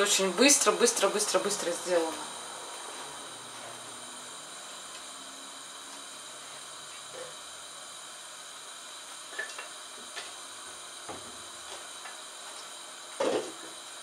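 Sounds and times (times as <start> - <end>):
gas burner hissing: 0.0 - 14.0.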